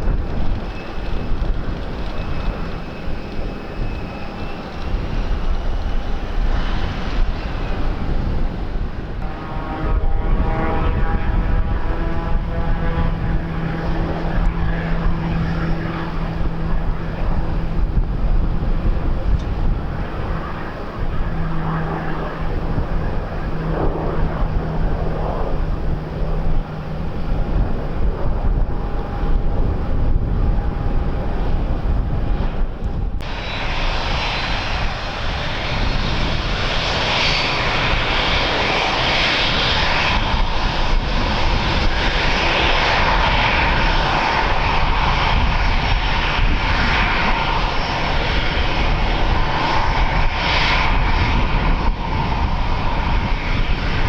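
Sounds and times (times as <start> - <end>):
airliner engines running: 0.0 - 54.0
wind rumbling on microphone: 0.0 - 54.0.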